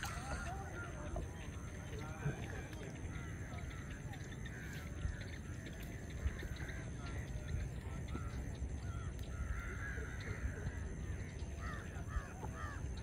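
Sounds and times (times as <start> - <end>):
crows cawing: 0.0 - 2.3, 2.9 - 13.0.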